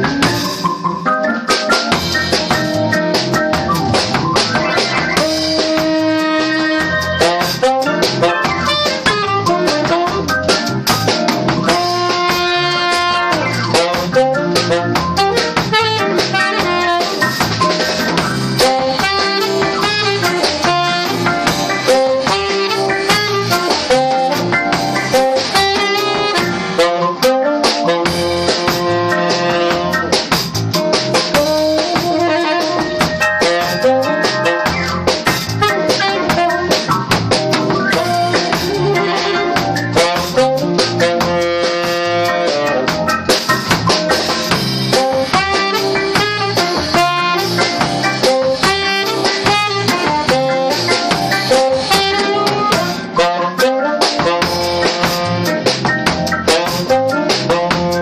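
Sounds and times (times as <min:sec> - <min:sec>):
accordion: 0:00.0 - 0:58.0
drum kit: 0:00.0 - 0:58.0
saxophone melody: 0:00.0 - 0:58.0.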